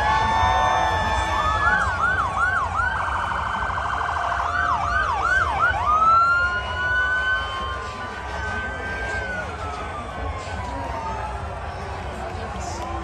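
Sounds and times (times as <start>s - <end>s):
police siren: 0.0s - 12.1s.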